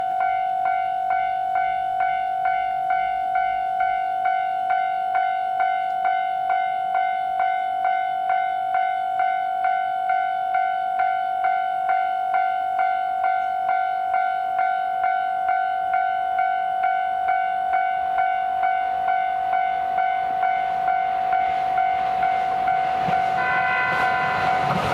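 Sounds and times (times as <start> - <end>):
level crossing electronic bell: 0.2 - 24.7.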